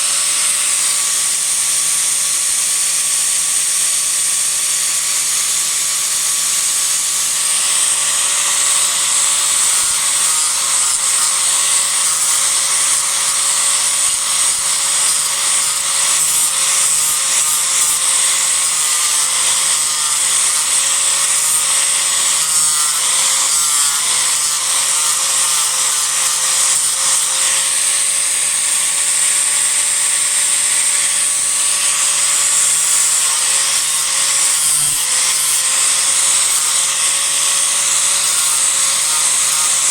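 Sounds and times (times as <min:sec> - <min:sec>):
disc grinder grinding wood: 0:00.0 - 0:39.9.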